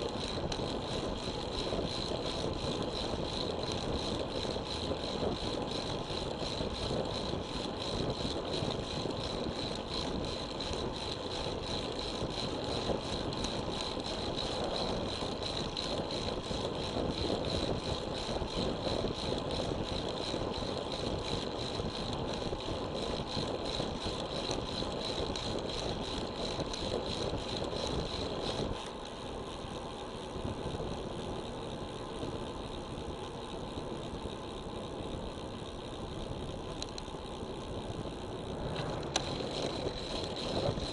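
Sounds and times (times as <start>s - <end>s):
bicycle road noise: 0.0s - 40.9s.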